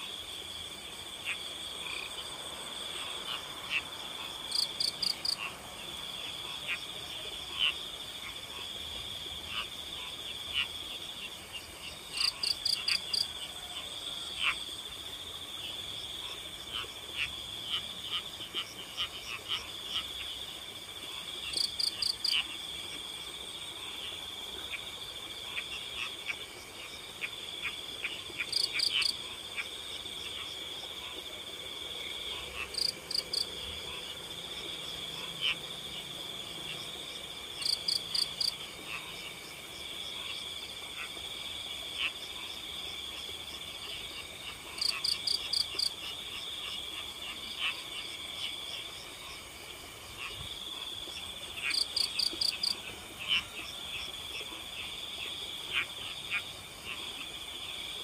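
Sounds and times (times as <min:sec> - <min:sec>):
crickets trilling: 0:00.0 - 0:58.0
frogs calling: 0:00.0 - 0:58.0.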